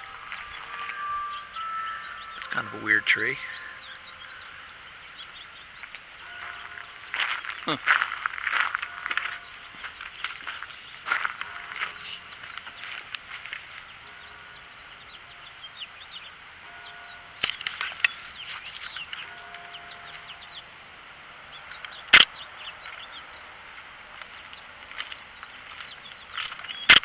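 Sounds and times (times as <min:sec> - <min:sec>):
wild birds chirping: 0:00.0 - 0:27.0.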